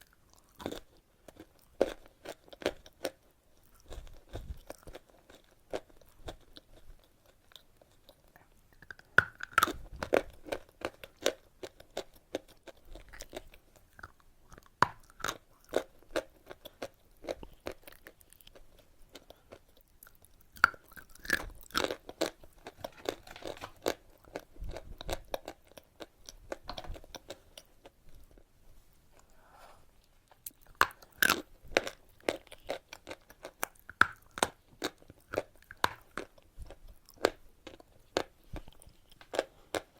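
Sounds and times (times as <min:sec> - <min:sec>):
crunching and chewing chalk: 0:00.0 - 0:28.5, 0:30.0 - 0:39.9.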